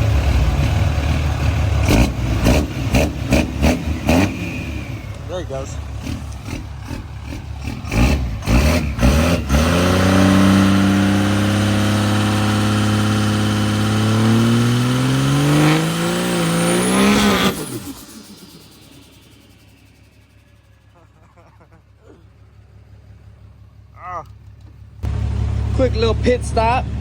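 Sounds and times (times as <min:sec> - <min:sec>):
truck engine revving: 0:00.0 - 0:21.4, 0:22.0 - 0:27.0.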